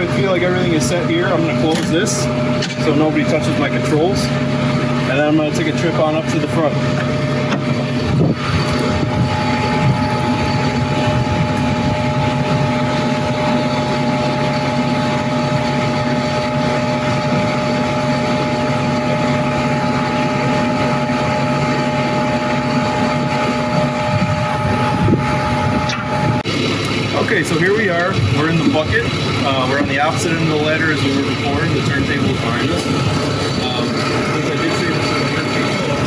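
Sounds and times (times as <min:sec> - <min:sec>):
truck engine running: 0:00.0 - 0:36.0
whining tones: 0:00.0 - 0:36.0.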